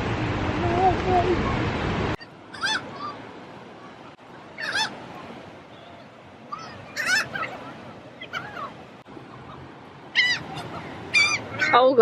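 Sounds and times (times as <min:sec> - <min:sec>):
seagulls calling: 0:02.2 - 0:12.0.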